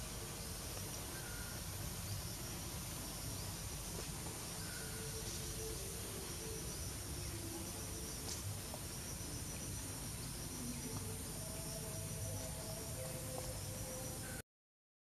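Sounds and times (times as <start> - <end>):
insects chirping in trills: 0.0 - 14.4
steady low hum: 0.0 - 14.4.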